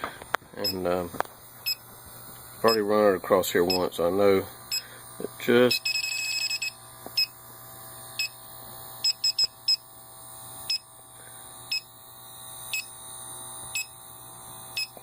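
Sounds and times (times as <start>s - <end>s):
leak detector beeping: 0.0s - 15.0s.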